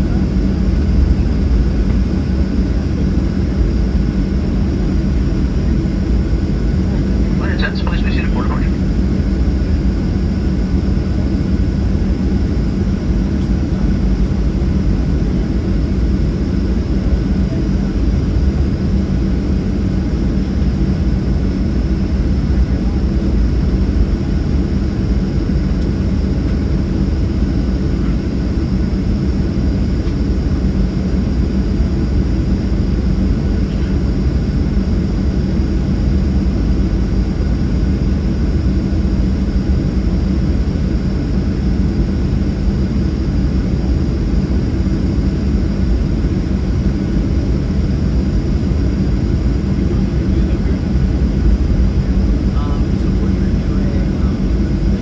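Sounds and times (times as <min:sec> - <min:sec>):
jet engines heard in cabin: 0:00.0 - 0:55.0.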